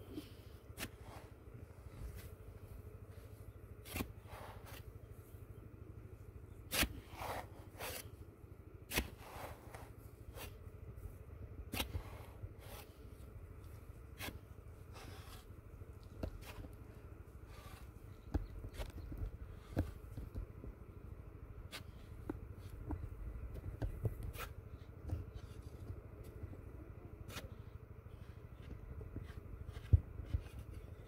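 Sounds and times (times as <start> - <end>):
faint low rumble: 0.0 - 31.0.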